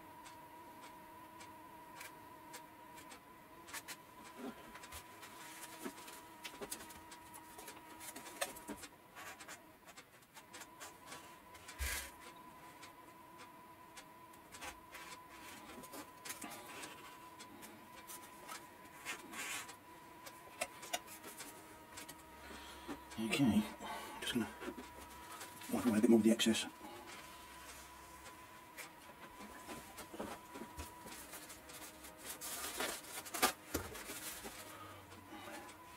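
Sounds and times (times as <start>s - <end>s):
faint steady high hum: 0.0s - 35.9s.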